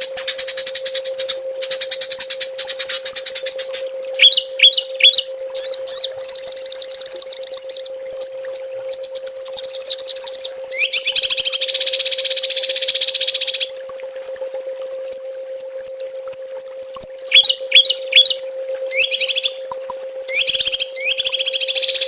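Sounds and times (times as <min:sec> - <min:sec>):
songbirds trilling: 0:00.0 - 0:13.7, 0:15.1 - 0:19.7, 0:20.3 - 0:22.0
faint steady hum: 0:00.0 - 0:22.0.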